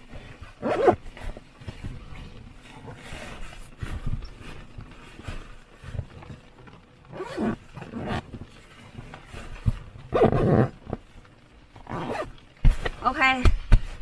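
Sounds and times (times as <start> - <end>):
fabric rustling: 0.0 - 14.0.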